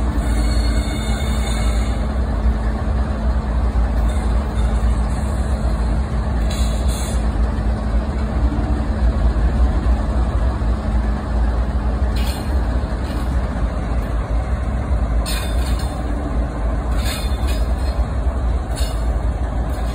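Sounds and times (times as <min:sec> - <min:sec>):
locomotive engine rumble: 0:00.0 - 0:19.9.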